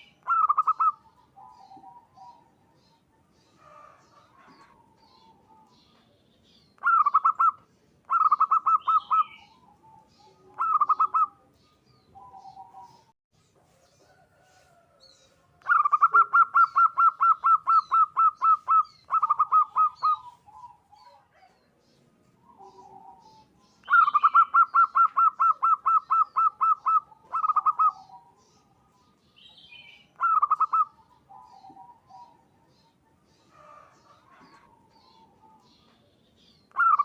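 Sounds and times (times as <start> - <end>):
dove cooing: 0.0 - 6.0, 6.7 - 13.1, 15.6 - 21.7, 22.3 - 36.0, 36.7 - 37.0
small birds chirping: 0.0 - 37.0.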